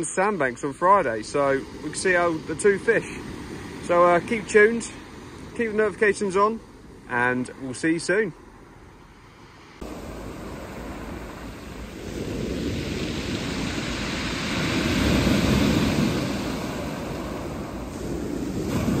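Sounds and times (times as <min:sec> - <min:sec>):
waves washing up shingle beach: 0:00.0 - 0:08.1, 0:09.4 - 0:19.0.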